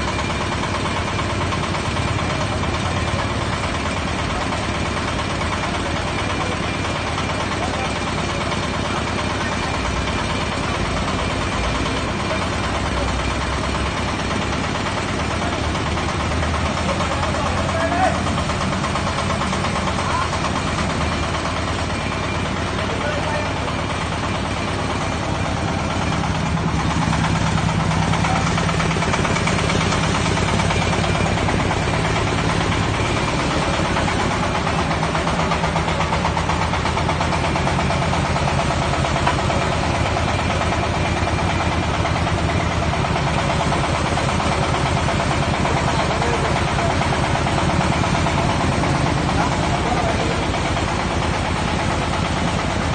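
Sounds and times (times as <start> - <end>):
drilling rig engine running: 0.0 - 52.9.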